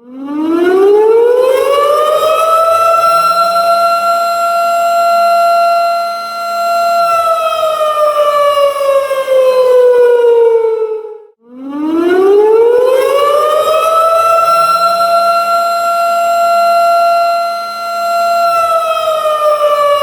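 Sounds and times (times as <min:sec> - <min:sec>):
warning siren wailing: 0:00.0 - 0:20.0.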